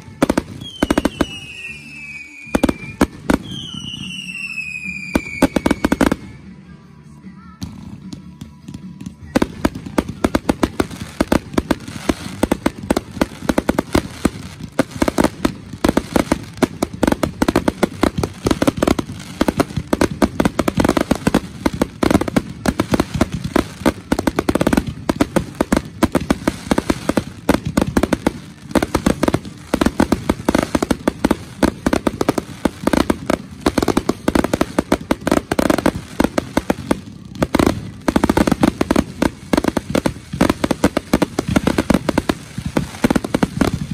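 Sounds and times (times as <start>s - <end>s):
fireworks bursting: 0.0s - 6.6s, 7.5s - 43.9s.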